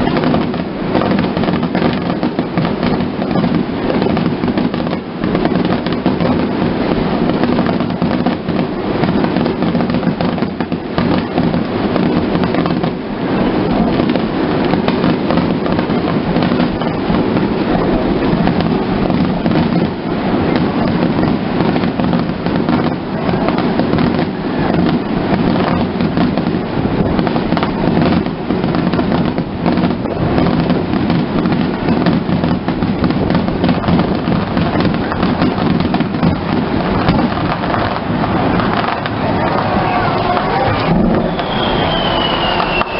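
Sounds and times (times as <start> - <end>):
fireworks crackling: 0.0 - 42.9
fireworks shells booming: 0.0 - 42.9.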